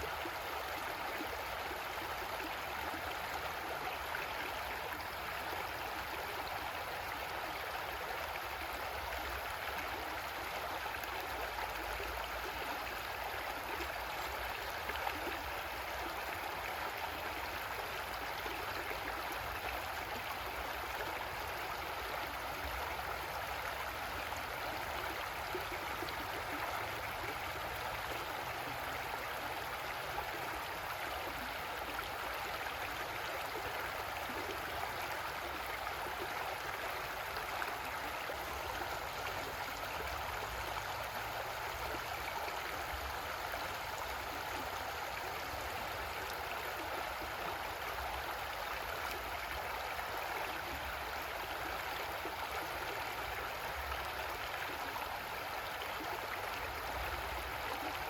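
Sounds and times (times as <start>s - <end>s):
creek water over rocks: 0.0s - 58.0s.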